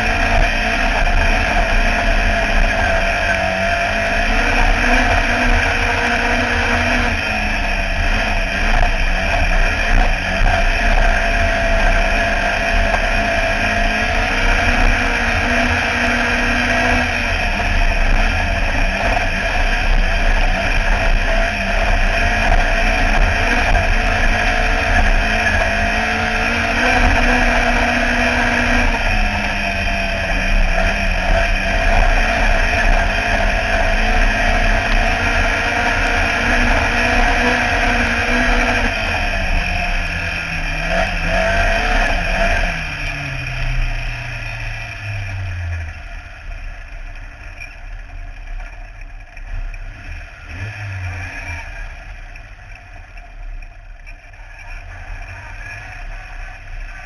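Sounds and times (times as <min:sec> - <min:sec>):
constant low rumble: 0:00.0 - 0:57.0
racing car engine at high revs: 0:00.0 - 0:57.0.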